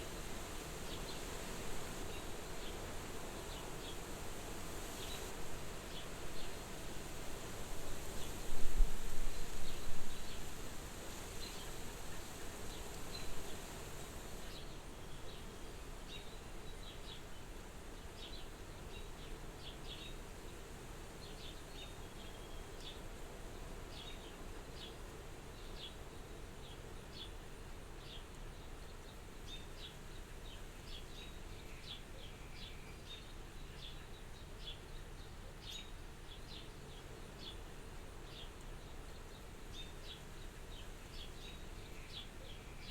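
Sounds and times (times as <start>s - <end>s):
soft wind hiss: 0.0s - 42.9s.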